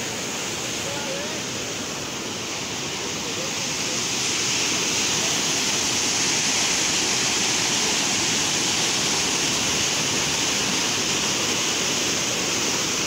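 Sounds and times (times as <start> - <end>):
floodwater rushing in stream: 0.0 - 13.0.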